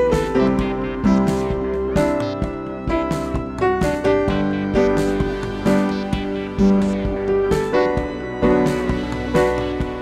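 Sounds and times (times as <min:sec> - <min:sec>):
instrumental music with keyboard: 0:00.0 - 0:10.0.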